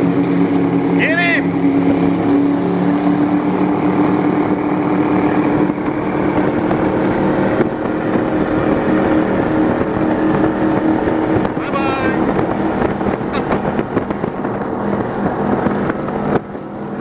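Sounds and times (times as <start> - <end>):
powerboat engines droning: 0.0 - 17.0
water rushing: 0.0 - 17.0
wind noise: 0.0 - 17.0.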